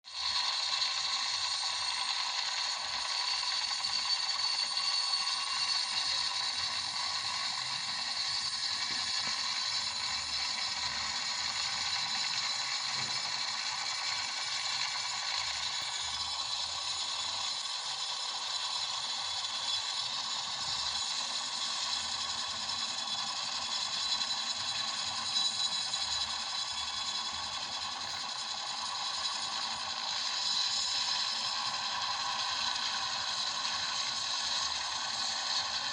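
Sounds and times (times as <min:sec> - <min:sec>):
helicopter rattle and whine: 0:00.1 - 0:35.9.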